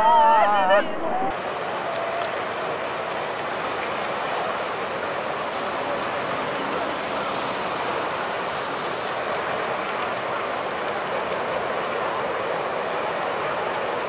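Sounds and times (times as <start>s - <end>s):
floodwater rushing: 1.3s - 14.0s.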